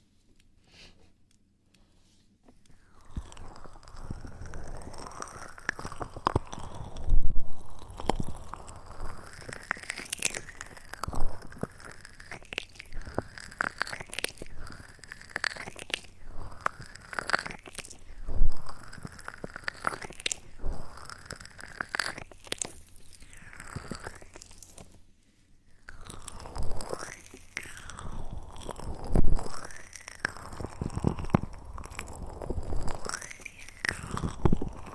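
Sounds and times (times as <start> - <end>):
wet mouth clicks and smacks: 2.9 - 24.9, 25.8 - 34.9.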